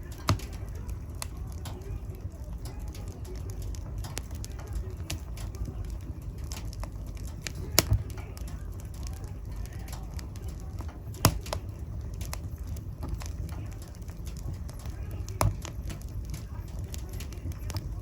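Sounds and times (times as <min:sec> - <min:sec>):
sharp loud pops of fire: 0:00.0 - 0:01.8, 0:02.6 - 0:17.8
fire crackling: 0:00.0 - 0:18.0.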